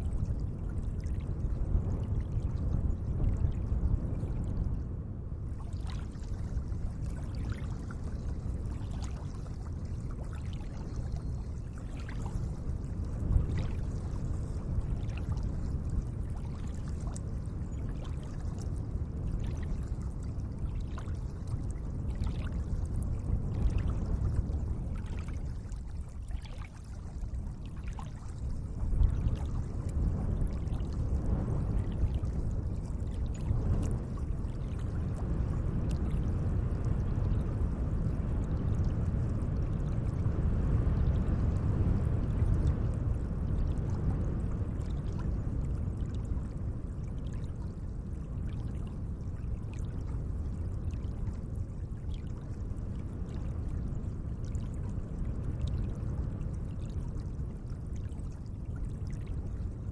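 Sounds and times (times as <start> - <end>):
steady low rumble: 0.0 - 59.9
water lapping and splashing: 0.3 - 2.4, 5.5 - 37.5, 43.8 - 59.8.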